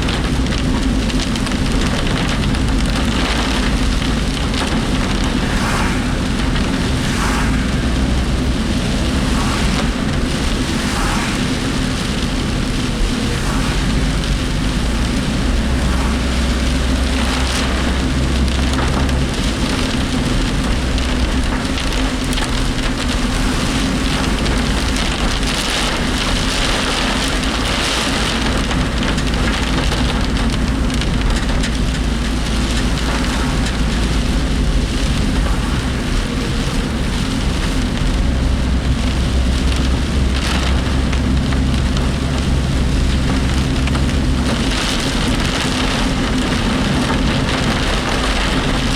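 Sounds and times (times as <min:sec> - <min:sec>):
engine and road rumble: 0:00.0 - 0:48.9
heavy rain hitting vehicle: 0:00.0 - 0:48.9.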